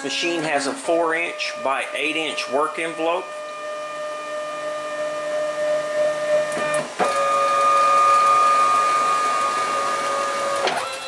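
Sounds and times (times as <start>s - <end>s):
stepper motors whining: 0.0s - 11.0s.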